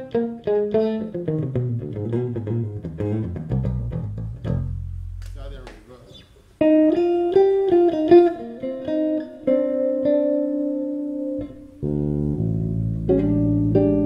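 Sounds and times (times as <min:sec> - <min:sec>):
electric bass played with a pick: 0:00.0 - 0:05.4, 0:06.6 - 0:14.0.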